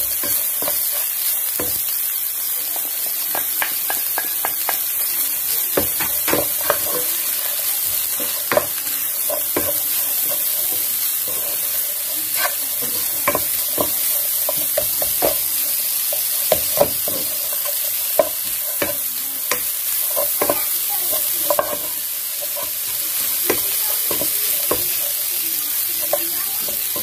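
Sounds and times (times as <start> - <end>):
spatula scraping a pan: 0.0 - 2.0, 5.8 - 27.0
food sizzling in a pan: 0.0 - 27.0.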